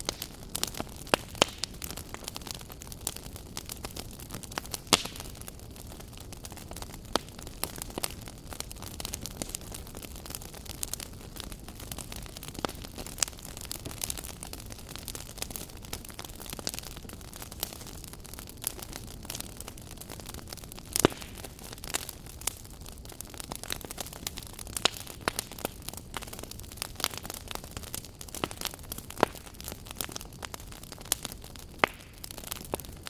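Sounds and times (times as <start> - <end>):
fire popping: 0.0 - 33.0
low rumble of flames: 0.0 - 33.0
wood fire crackling: 0.0 - 33.0.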